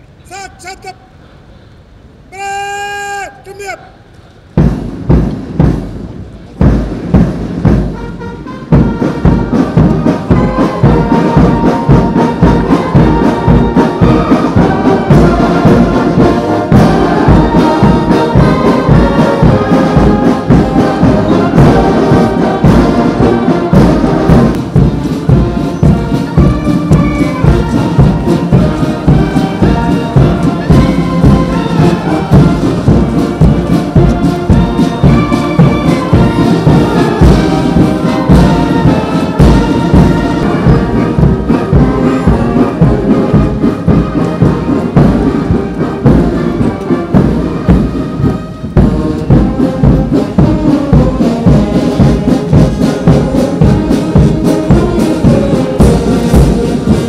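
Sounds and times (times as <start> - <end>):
brass band playing a march: 2.4 - 57.0
steady drum beat: 4.4 - 57.0.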